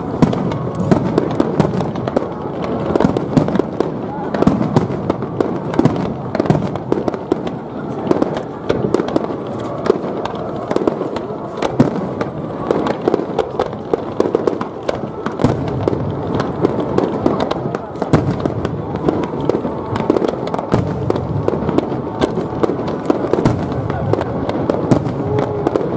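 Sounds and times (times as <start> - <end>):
fireworks booms and cracks: 0.0 - 25.9
fireworks crackling: 0.0 - 25.9.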